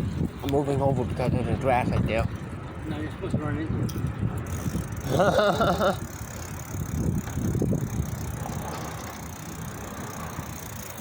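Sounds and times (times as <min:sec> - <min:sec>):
wind on microphone: 0:00.0 - 0:09.2
bicycle tyres rumbling: 0:00.0 - 0:11.0.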